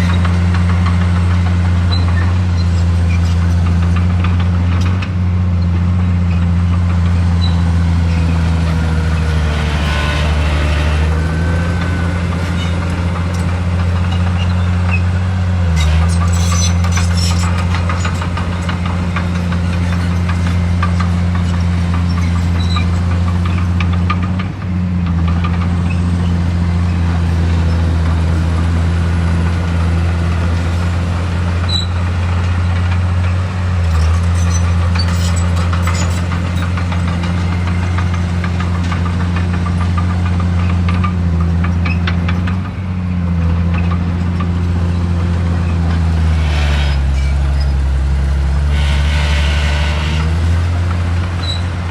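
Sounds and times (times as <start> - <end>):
heavy machine engine droning: 0.0 - 51.9.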